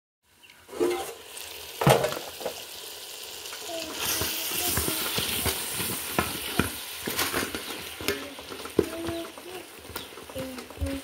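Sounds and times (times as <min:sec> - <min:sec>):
food sizzling in a pot: 0:00.2 - 0:11.0.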